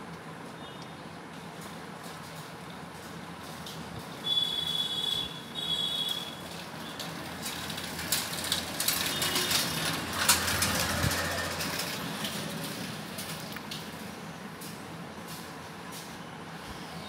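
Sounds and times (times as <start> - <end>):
vehicle engine noise: 1.2 - 16.9.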